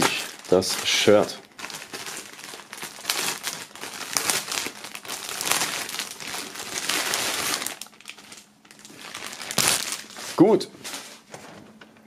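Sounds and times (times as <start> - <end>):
plastic film crinkling: 0.0 - 11.8.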